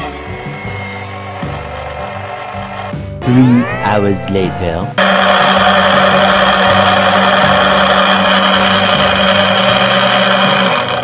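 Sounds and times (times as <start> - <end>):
electric pump motor whine: 0.0 - 3.0, 5.0 - 11.0.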